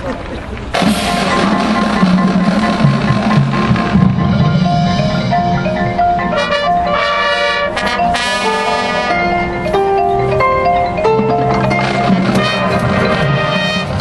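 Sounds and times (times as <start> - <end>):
drum strokes: 0.7 - 14.0
marimba and glockenspiel melody: 1.0 - 14.0.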